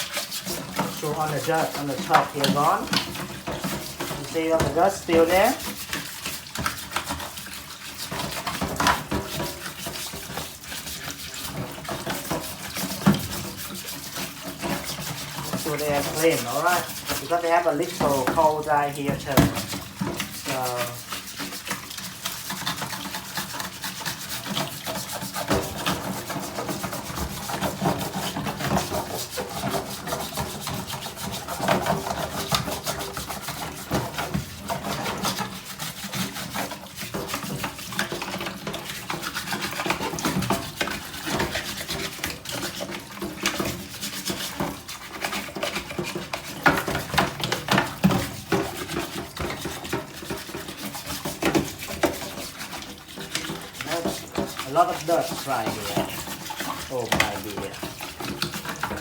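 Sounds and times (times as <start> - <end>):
scrubbing dirt off plastic: 0.0 - 59.0.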